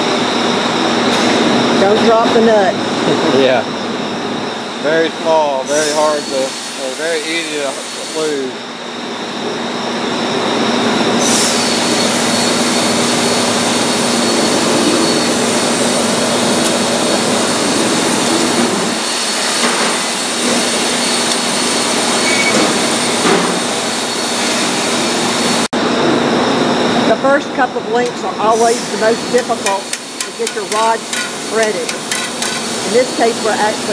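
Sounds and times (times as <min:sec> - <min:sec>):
machinery rushing and humming: 0:00.0 - 0:33.9.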